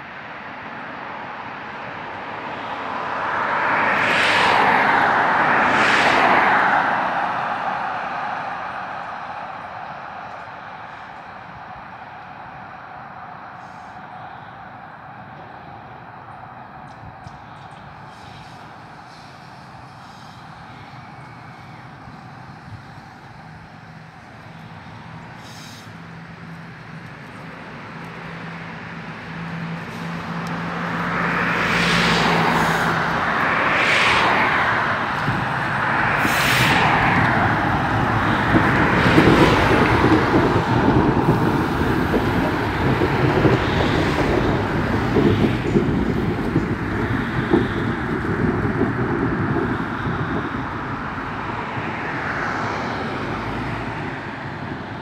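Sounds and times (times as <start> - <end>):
electric tram hum: 0.0 - 55.0
tram wheels rolling on rails: 0.0 - 55.0.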